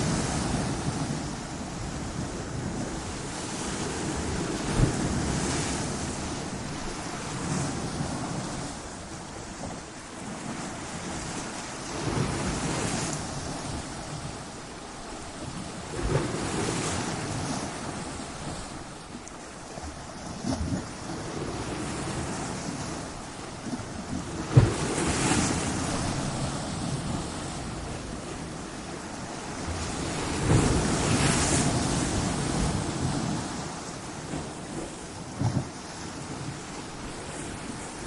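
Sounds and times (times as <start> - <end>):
waves crashing on rocks: 0.0 - 38.0.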